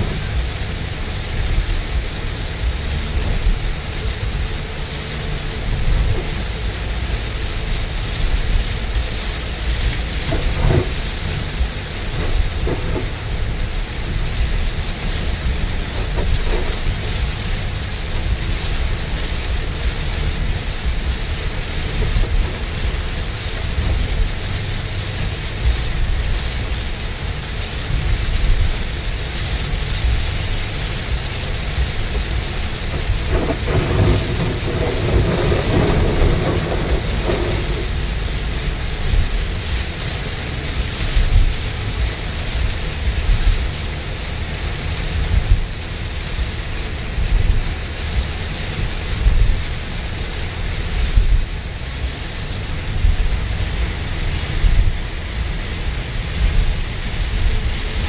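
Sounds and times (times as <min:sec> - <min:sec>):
deep road rumble: 0:00.0 - 0:58.0
heavy rain on a car: 0:00.0 - 0:58.0
tyres hissing on wet road: 0:00.0 - 0:58.0.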